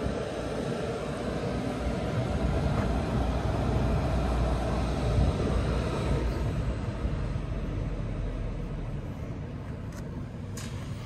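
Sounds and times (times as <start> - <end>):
moving train rumbling: 0.0 - 11.0.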